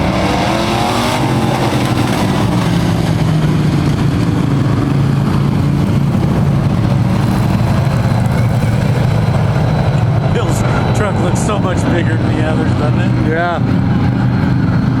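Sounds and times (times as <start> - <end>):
racing truck engines droning: 0.0 - 15.0.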